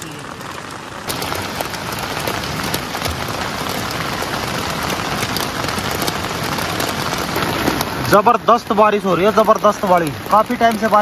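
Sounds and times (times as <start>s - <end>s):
heavy rain on a tent: 0.0s - 11.0s.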